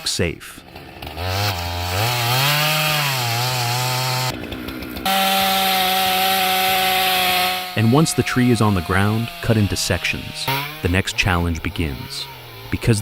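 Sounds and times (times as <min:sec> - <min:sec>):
chainsaw engine cutting: 0:00.0 - 0:13.0.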